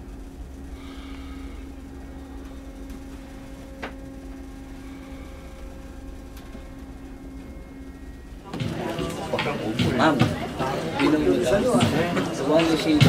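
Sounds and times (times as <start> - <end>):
ship machinery hum: 0.0 - 13.0.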